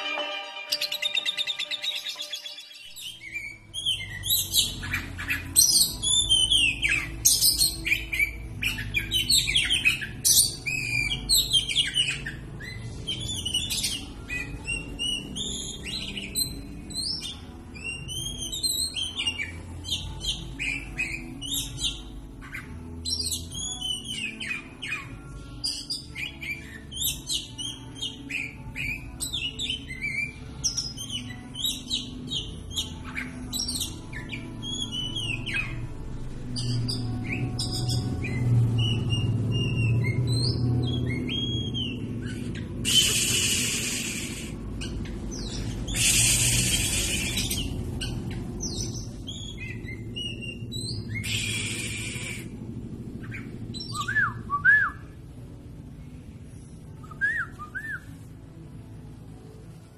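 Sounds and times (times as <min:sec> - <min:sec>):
bird singing whistles and trills: 0:00.7 - 0:55.2, 0:57.0 - 0:58.4.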